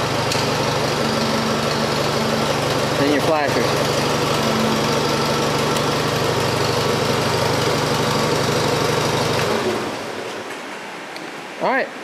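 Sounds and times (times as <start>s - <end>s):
tractor engine idling and shutting off: 0.0s - 10.7s.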